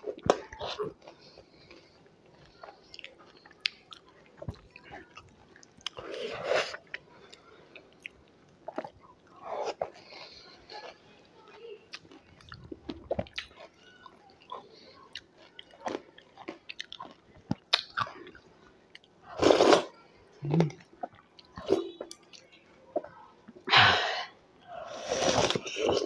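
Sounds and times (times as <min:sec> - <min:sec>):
wet chewing and mouth clicks: 0:00.2 - 0:06.0, 0:06.7 - 0:19.2, 0:20.5 - 0:23.2.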